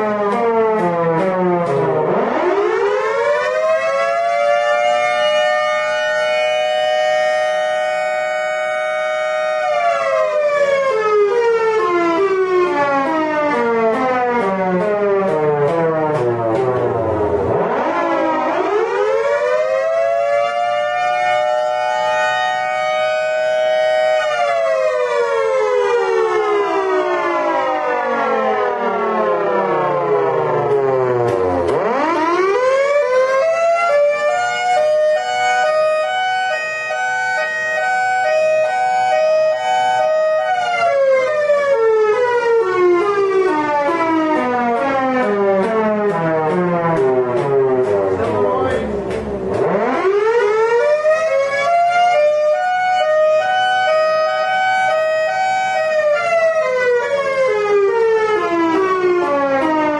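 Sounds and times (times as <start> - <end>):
siren winding up and wailing: 0.0 - 59.9.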